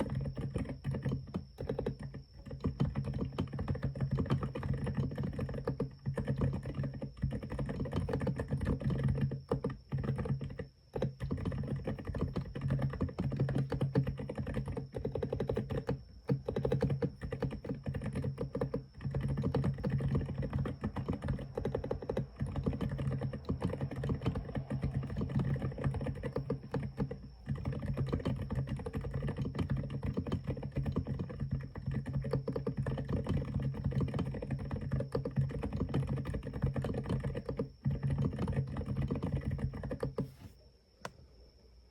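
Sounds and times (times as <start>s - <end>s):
typing on mechanical keyboard: 0.0s - 40.5s.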